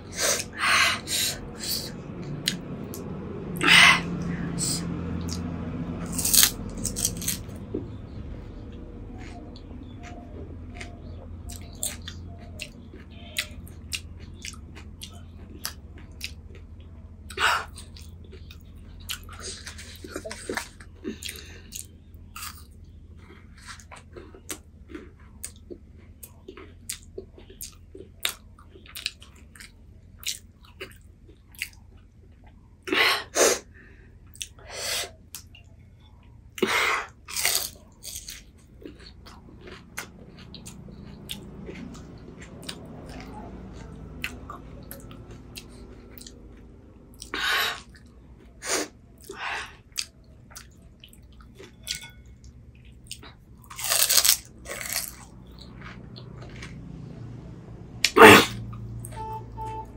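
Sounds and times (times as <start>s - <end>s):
crisp shells crunching when chewed: 4.0s - 32.9s, 33.7s - 59.0s.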